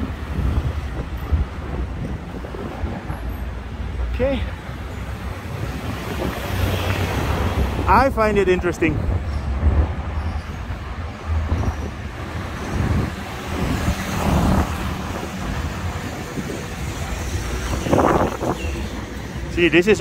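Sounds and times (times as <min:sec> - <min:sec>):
low rumble of passing vehicles: 0:00.0 - 0:20.0.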